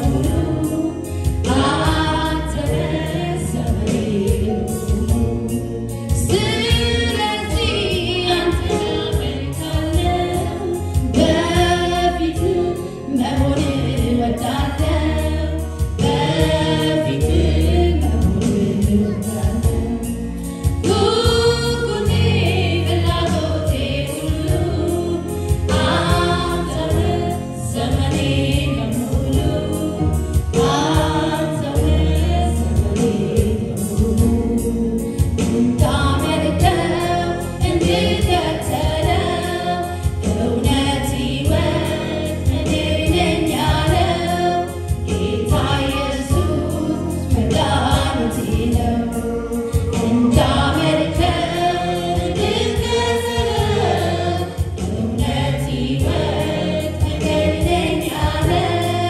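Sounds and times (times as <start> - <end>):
woman singing gospel: 0.0 - 59.0
backing singers: 6.2 - 59.0.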